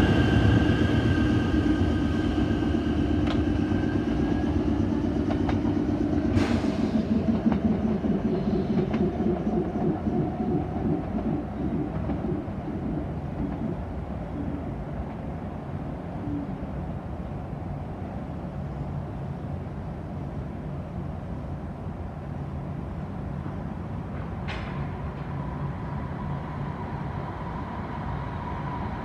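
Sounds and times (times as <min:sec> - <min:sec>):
train wheels rumbling over rails: 0:00.0 - 0:16.1, 0:17.4 - 0:29.0
train whine: 0:00.0 - 0:29.0.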